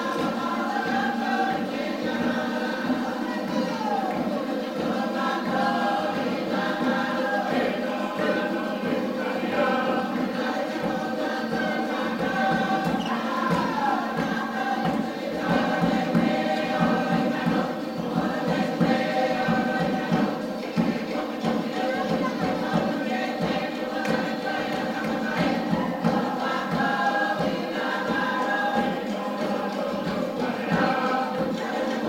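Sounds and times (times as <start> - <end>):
group of voices chanting: 0.0 - 32.0.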